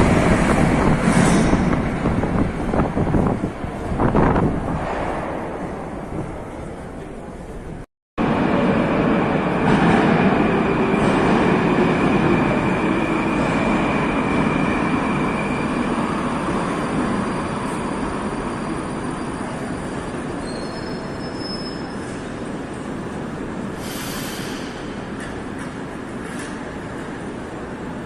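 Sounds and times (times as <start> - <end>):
train wheels and motors rumbling: 0.0 - 28.0.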